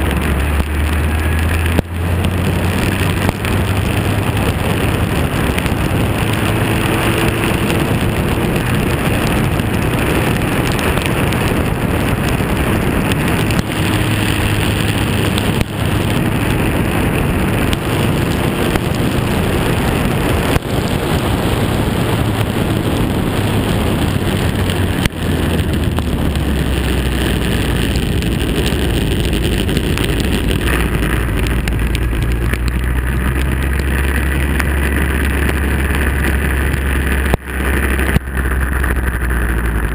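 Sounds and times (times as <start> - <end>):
racing car engine: 0.0 - 39.9
wind rush: 0.0 - 39.9.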